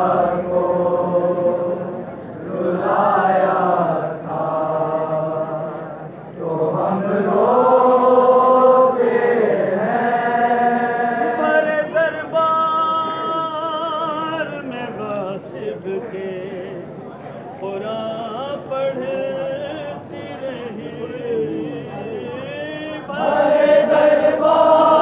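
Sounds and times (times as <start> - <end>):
men singing a lament: 0.0 - 16.9, 17.6 - 25.0.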